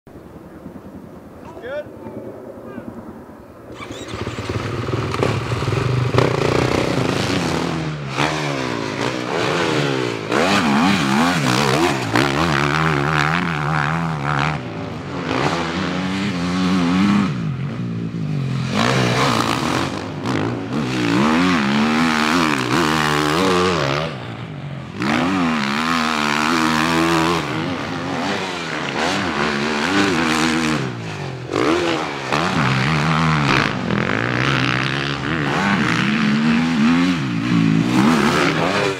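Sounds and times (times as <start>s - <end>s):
motocross bikes revving: 3.7s - 38.9s.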